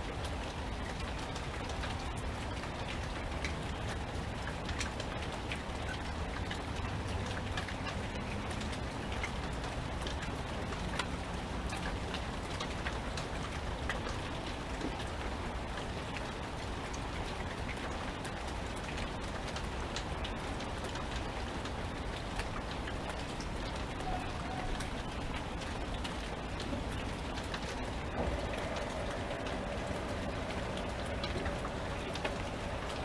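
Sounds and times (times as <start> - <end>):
steady rain falling: 0.0 - 33.0
close raindrop hits: 0.2 - 33.0.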